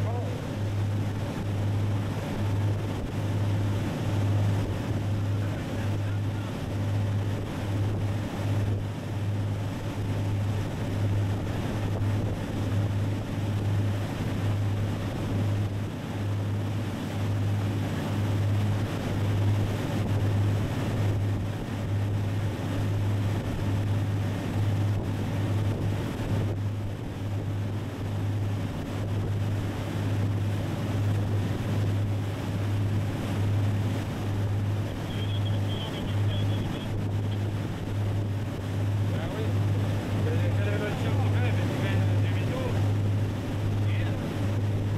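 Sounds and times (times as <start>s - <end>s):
motorboat engine droning: 0.0s - 44.9s
wake rushing: 0.0s - 44.9s
wind buffeting microphone: 0.0s - 44.9s.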